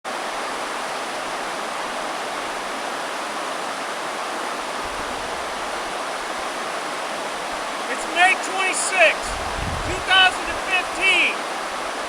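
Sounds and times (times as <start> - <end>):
river water rushing over rocks: 0.1 - 12.0.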